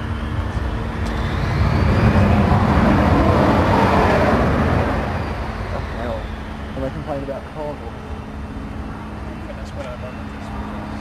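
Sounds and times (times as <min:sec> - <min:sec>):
falling whine: 0:00.0 - 0:11.0
jet engine passing: 0:00.0 - 0:11.0.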